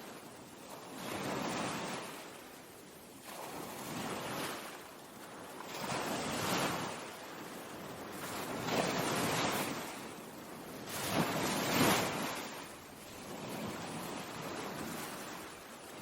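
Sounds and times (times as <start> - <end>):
ocean waves rushing and washing back: 0.0 - 16.0.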